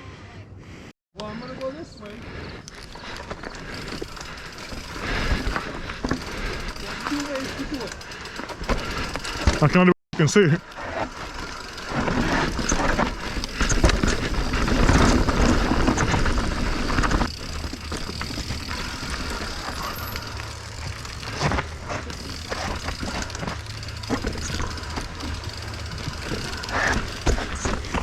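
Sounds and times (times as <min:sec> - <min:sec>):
bike frame and chain rattling: 0:01.9 - 0:09.9, 0:10.6 - 0:28.0
bike tyres rumbling over rock: 0:02.9 - 0:09.7, 0:10.8 - 0:28.0.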